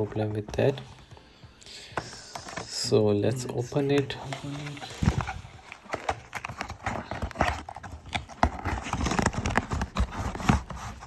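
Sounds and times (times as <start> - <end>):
packaging clicks and knocks: 1.9 - 11.0.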